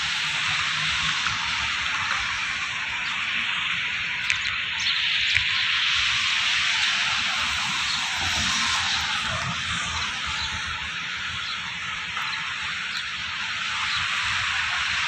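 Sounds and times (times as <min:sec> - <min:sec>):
rushing water hiss: 0:00.0 - 0:15.0.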